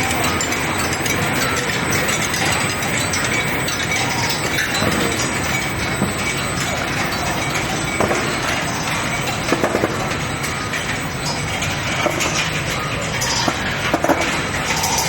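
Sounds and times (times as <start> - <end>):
machinery clatter: 0.0 - 15.0
metallic clinks: 0.0 - 15.0.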